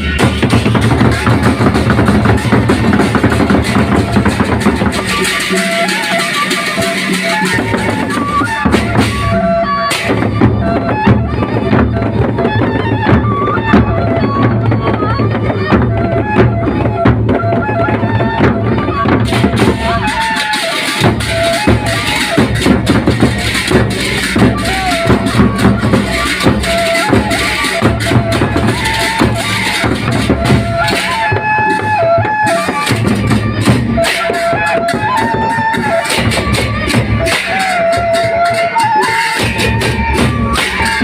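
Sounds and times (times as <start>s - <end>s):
big drums beating fast: 0.0s - 41.0s
cymbals: 0.0s - 41.0s
stepped melody line: 0.0s - 41.0s.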